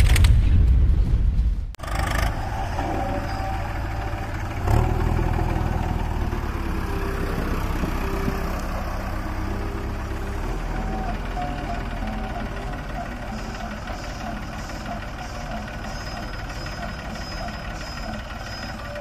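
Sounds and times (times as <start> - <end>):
diesel engines rumbling: 1.8 - 19.0.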